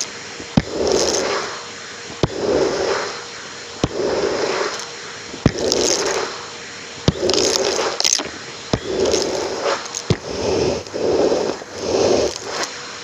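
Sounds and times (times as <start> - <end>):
sucking and scraping noise: 0.0 - 13.0
vacuum cleaner: 0.0 - 13.0.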